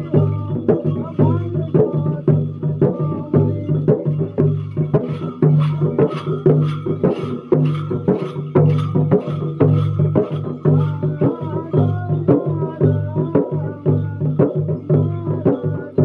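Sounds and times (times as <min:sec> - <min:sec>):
frame drums beaten with sticks: 0:00.0 - 0:16.0.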